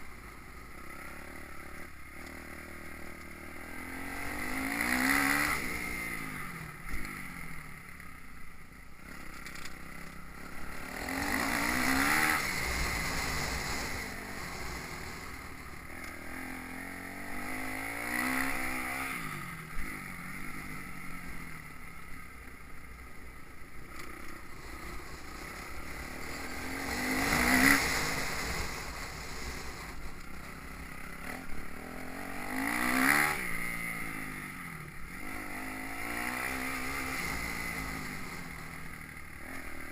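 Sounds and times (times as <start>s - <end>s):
motocross bike engine revving: 0.7s - 8.3s, 8.9s - 39.9s.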